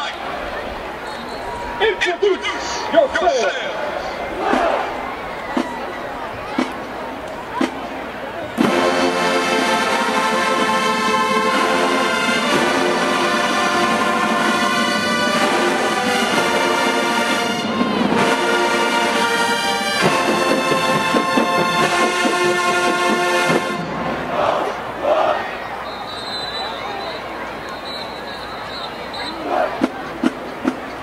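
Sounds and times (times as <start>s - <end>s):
marching band brass chords: 0.0s - 31.0s.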